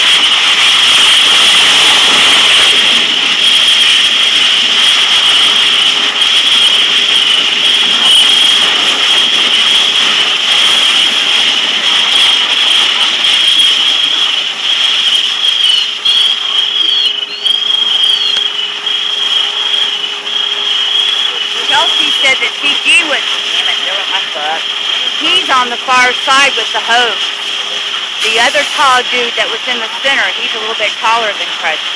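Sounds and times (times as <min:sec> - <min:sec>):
fire rushing: 0:00.0 - 0:31.9
hose spraying water: 0:00.0 - 0:31.9.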